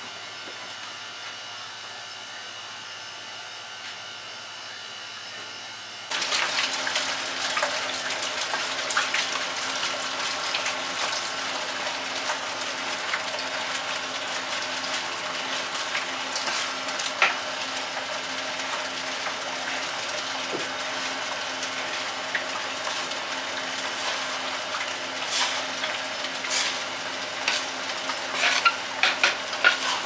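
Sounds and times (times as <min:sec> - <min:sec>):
steady machine hum: 0:00.0 - 0:30.0.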